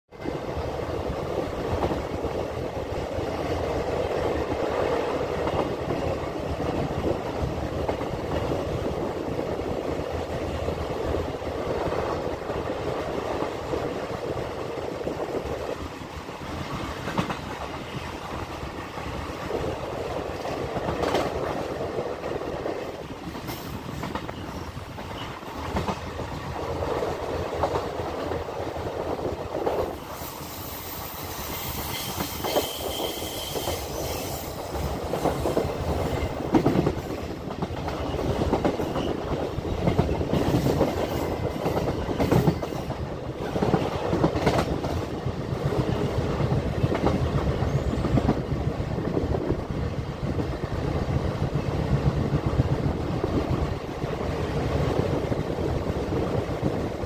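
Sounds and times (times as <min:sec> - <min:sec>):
clickety-clack over rail joints: 0:00.1 - 0:57.0
train wheels rumbling on rails: 0:00.1 - 0:57.0.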